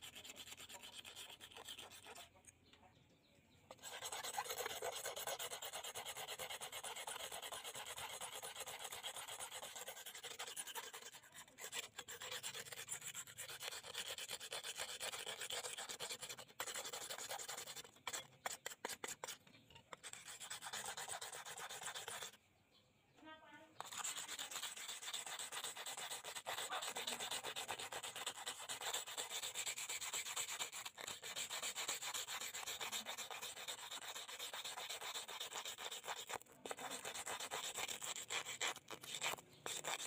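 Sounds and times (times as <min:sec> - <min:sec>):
scrubbing rust off metal blade: 0:00.0 - 0:02.4, 0:03.7 - 0:22.4, 0:23.8 - 0:40.0.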